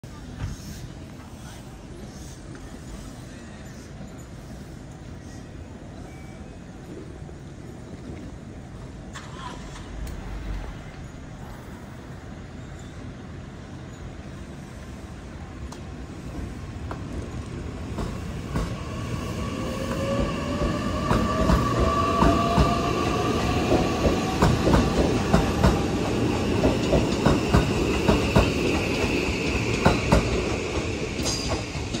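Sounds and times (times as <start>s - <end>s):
train rumble: 0.0s - 32.0s.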